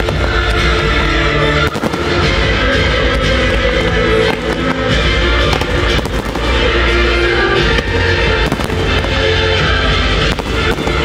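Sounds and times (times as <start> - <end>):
fireworks bursting with bangs: 0.0 - 11.0
music playing: 0.0 - 11.0.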